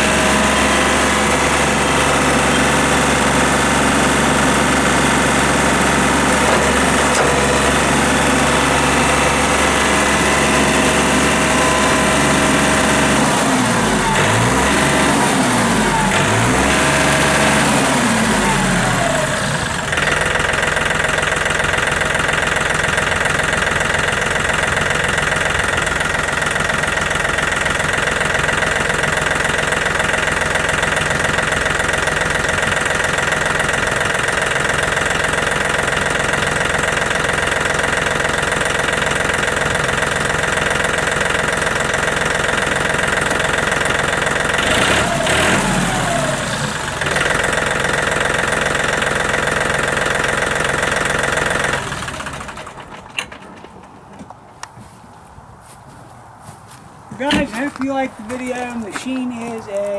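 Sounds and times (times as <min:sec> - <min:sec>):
diesel tractor engine clattering: 0:00.0 - 0:55.4, 0:57.0 - 0:59.9.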